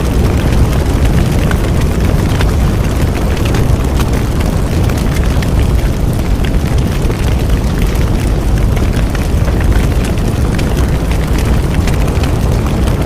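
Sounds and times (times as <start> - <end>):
bonfire roaring: 0.0 - 13.0
burning wood crackling and popping: 0.0 - 13.0.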